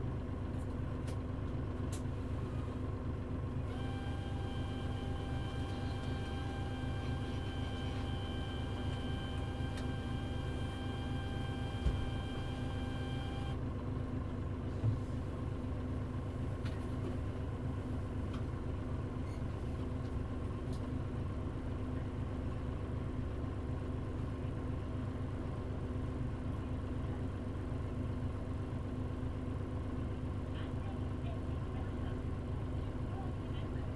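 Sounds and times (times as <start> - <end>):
bus engine hum: 0.0 - 33.9.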